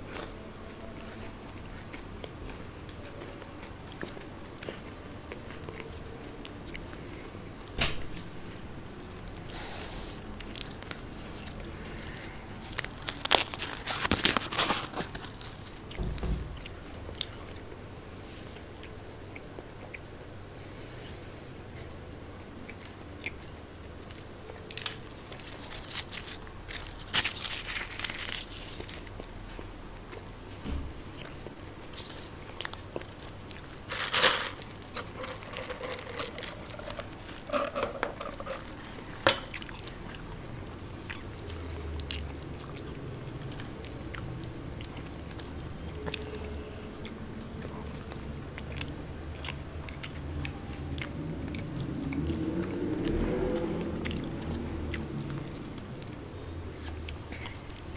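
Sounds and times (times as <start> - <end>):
chewing and crunching snack food: 0.0 - 57.9.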